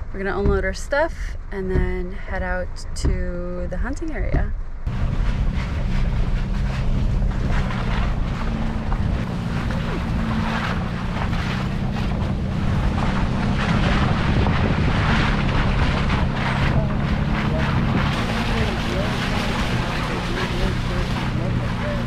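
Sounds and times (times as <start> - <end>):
vehicle engine drone: 0.0 - 22.0
wind buffeting microphone: 0.0 - 22.0.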